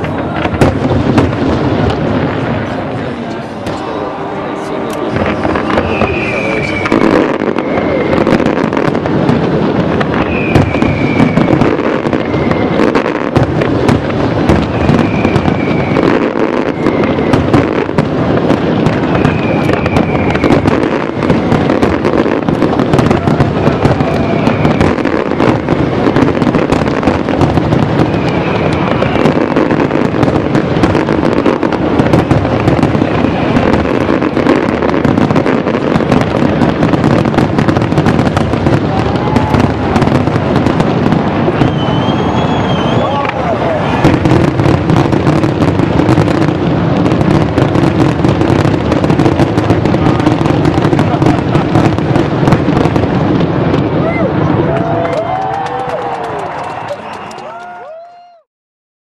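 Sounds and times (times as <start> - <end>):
fireworks bangs and crackle: 0.0 - 58.5.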